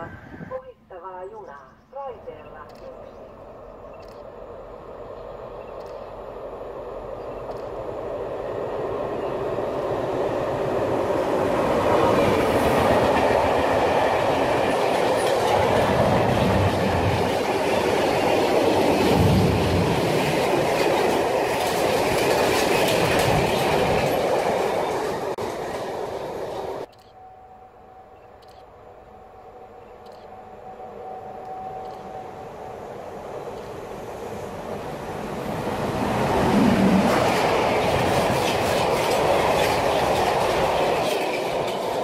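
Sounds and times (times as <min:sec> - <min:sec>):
freight train wheels rumbling: 0:03.2 - 0:27.0, 0:30.9 - 0:42.0.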